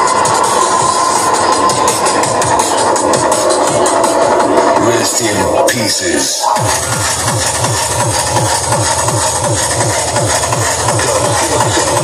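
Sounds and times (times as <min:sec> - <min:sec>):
fast hi-hats: 0:00.0 - 0:05.5, 0:06.4 - 0:12.0
techno kick drum: 0:00.0 - 0:12.0.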